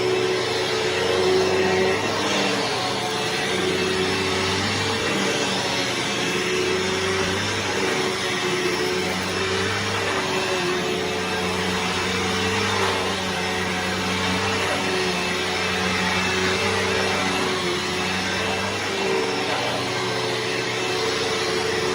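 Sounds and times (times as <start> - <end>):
upright vacuum running: 0.0 - 21.9.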